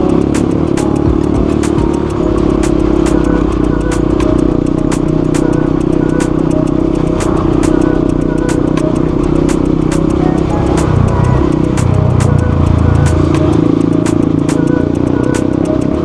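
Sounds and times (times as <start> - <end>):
motorcycle engine running: 0.0 - 16.0
sharp ticks: 0.0 - 16.0.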